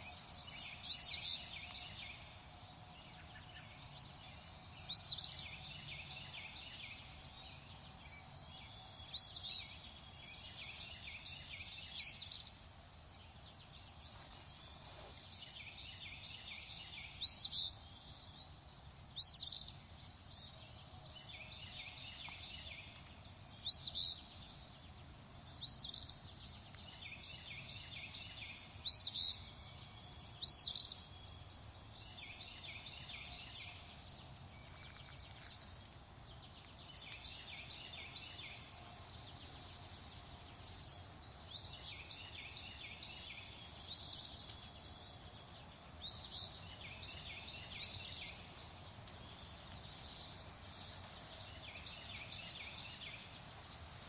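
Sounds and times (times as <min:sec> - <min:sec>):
small birds chirping in chorus: 0:00.0 - 0:54.0.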